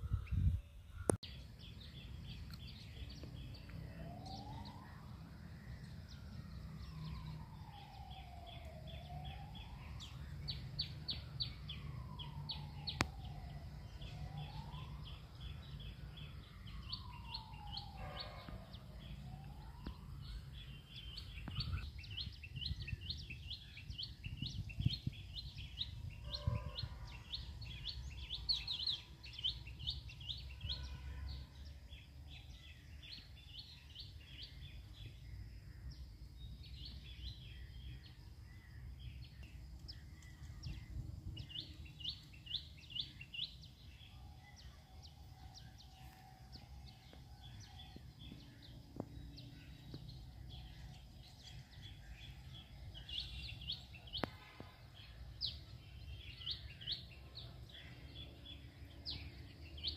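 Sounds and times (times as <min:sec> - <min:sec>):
birds chirping rapidly: 0:00.0 - 0:59.9.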